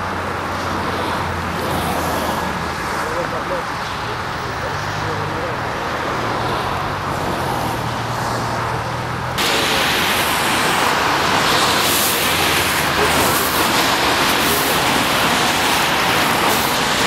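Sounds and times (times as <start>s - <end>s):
tyres hissing on wet road: 0.0s - 17.0s.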